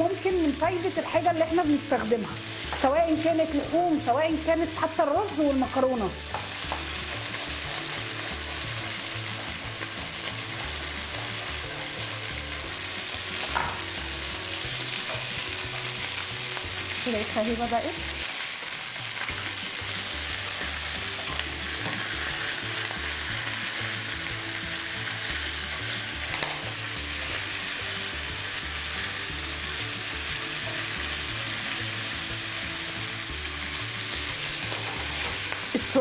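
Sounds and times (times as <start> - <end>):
food sizzling in frying pan: 0.0 - 36.0.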